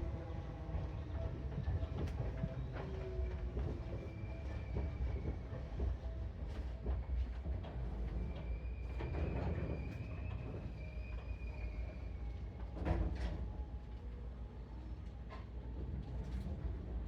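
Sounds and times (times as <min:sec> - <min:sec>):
train rumbling inside carriage: 0:00.0 - 0:17.0.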